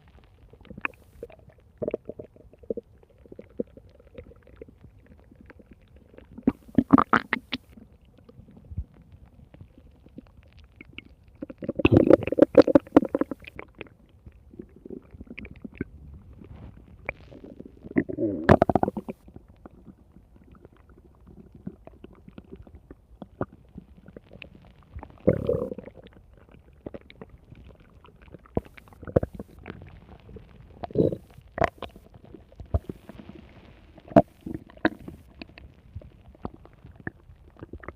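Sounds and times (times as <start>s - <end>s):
stomach growling: 0.0s - 37.9s.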